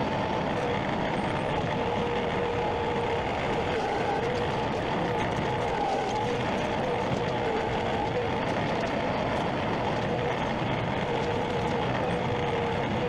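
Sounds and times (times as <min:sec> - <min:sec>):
engine running with whine: 0:00.0 - 0:13.0.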